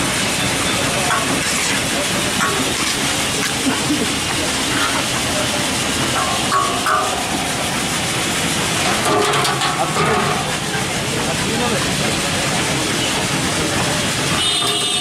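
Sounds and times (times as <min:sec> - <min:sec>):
people talking: 0:00.0 - 0:15.0
street noise: 0:00.0 - 0:15.0.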